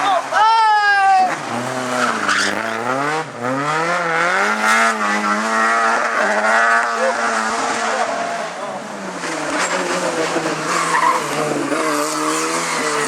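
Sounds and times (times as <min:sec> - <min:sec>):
race car engine accelerating: 0:01.3 - 0:13.0.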